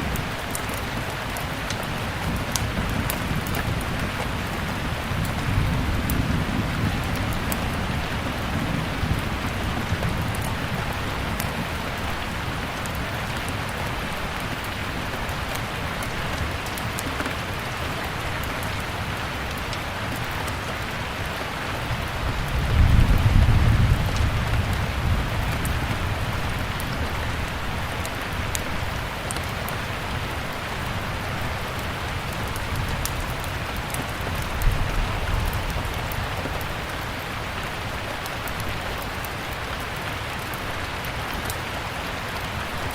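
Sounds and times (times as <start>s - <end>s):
steady rain: 0.0s - 42.9s
wood fire crackles: 0.0s - 42.9s.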